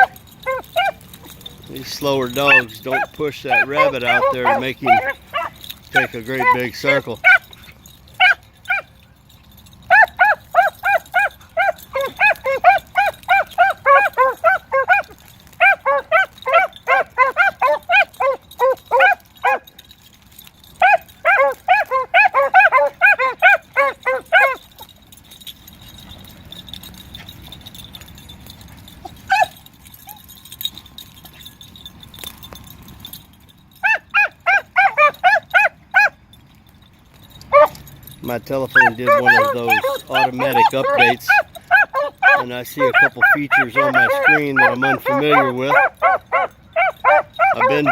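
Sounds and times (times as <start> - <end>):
hounds baying: 0.0 - 47.9.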